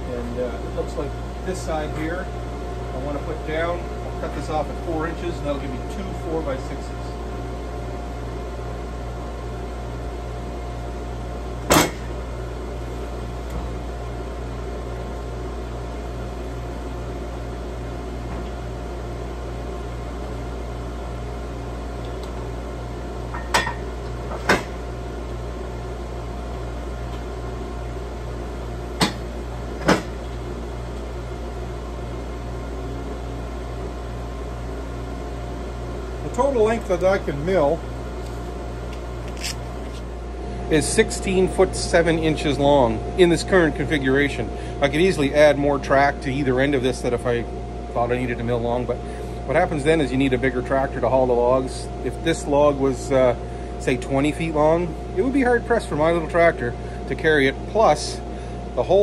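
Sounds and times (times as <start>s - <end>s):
sawmill humming at idle: 0.0s - 59.0s.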